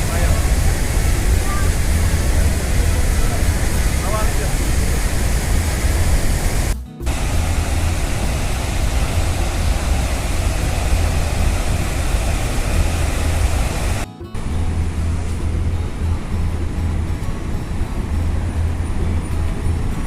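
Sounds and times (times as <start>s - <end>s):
loud waterfall roar: 0.0s - 20.0s.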